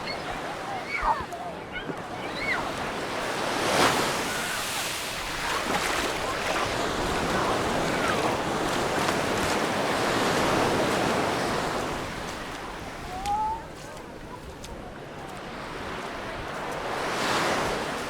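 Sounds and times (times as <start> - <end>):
waves breaking on a beach: 0.0 - 18.0.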